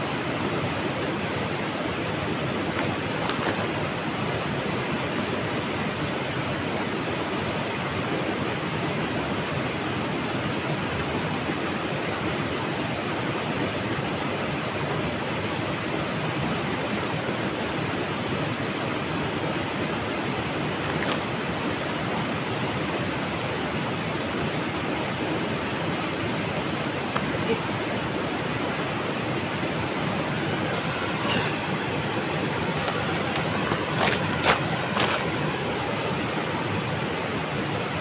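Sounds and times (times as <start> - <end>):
water rushing over rocks: 0.0 - 38.0.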